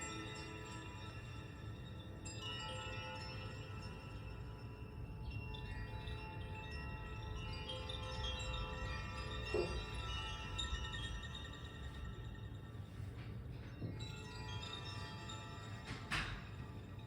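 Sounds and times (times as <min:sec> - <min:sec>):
chimes ringing: 0:00.0 - 0:17.0.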